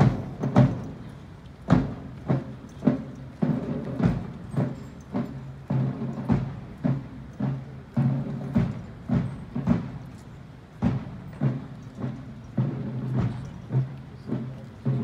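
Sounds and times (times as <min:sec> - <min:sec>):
military drums beating slow cadence: 0:00.0 - 0:15.0.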